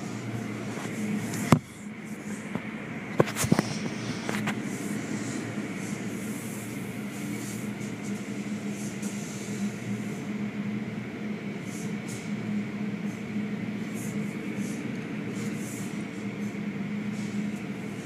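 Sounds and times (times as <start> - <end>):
car wash machine hum: 0.0 - 18.0.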